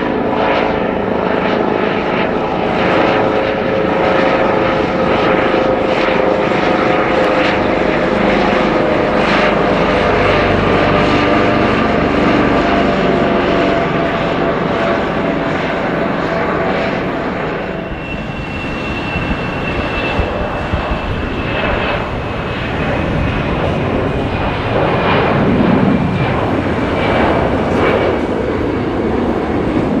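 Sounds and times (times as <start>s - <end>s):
aircraft engines passing: 0.0s - 30.0s.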